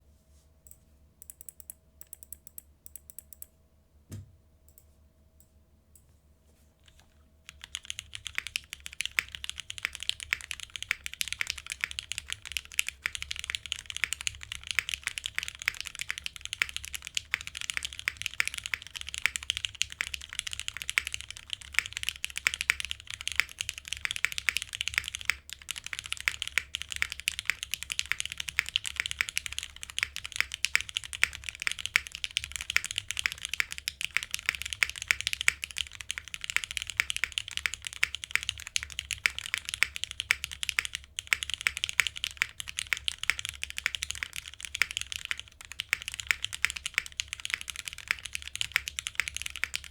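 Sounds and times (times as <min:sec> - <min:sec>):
mechanical keyboard typing: 0:01.2 - 0:03.5, 0:06.9 - 0:49.9.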